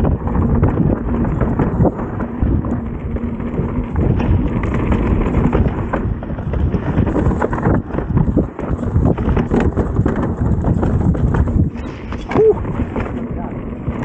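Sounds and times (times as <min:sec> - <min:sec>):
bike clattering over rocky trail: 0:00.0 - 0:14.0
wind on microphone: 0:00.0 - 0:14.0.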